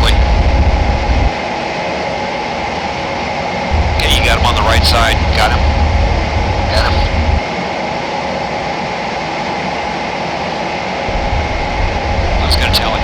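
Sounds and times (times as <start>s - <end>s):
fighter jet engine running: 0.0s - 13.0s.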